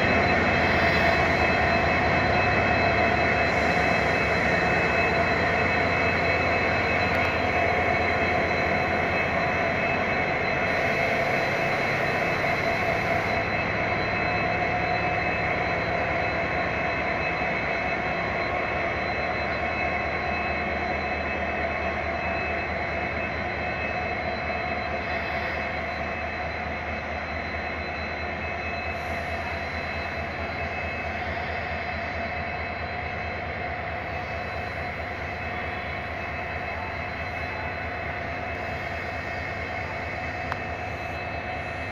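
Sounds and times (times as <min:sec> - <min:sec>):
diesel locomotive engine whining: 0:00.0 - 0:41.9.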